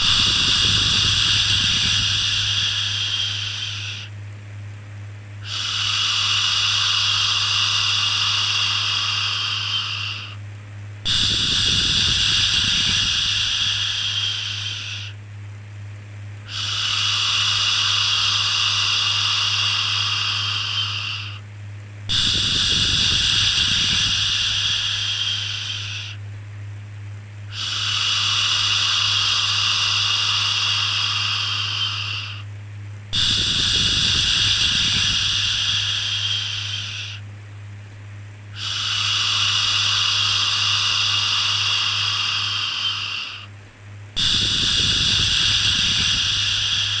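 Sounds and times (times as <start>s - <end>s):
constant low hum: 0.0s - 47.0s.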